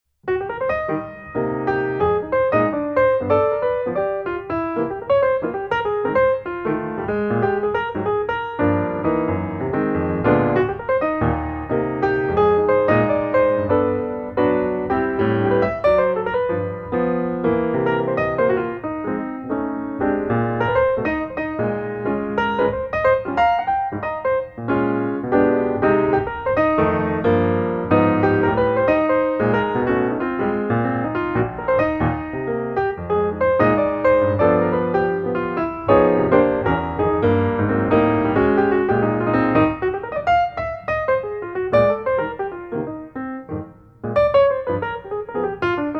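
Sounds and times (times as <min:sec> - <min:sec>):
piano music: 0:00.2 - 0:45.9.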